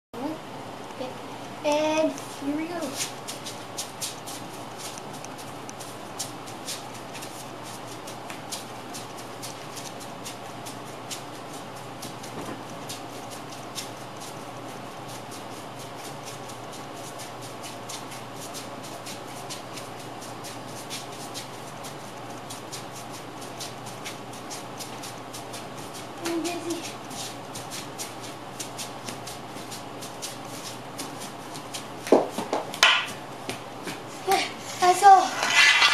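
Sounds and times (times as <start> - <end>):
background hum and hiss: 0.2 - 35.9.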